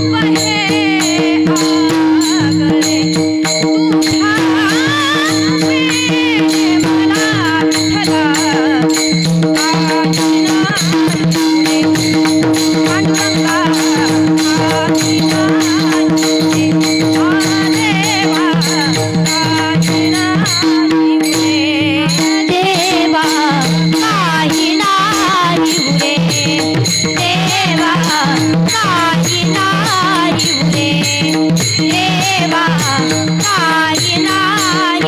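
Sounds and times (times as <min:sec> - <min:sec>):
harmonium drone: 0:00.0 - 0:35.0
small hand cymbals clashing: 0:00.0 - 0:35.0
woman singing: 0:00.0 - 0:35.0.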